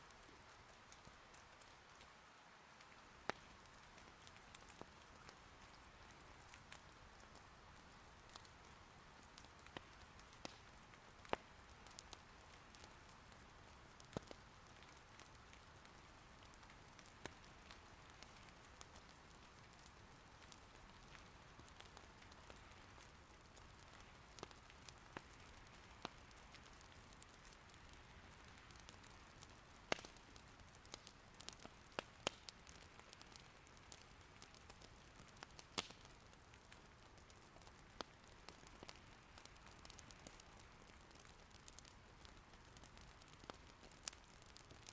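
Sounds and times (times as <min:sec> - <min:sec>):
soft rain patter: 0:00.0 - 0:44.9
wood fire crackling: 0:00.0 - 0:44.9.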